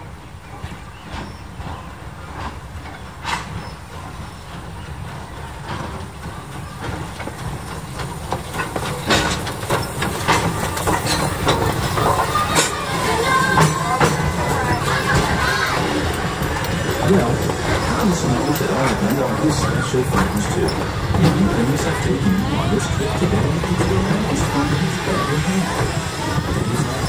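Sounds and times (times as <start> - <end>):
train rumbling past: 0.0 - 27.0
wheels clicking over rail joints: 0.5 - 27.0.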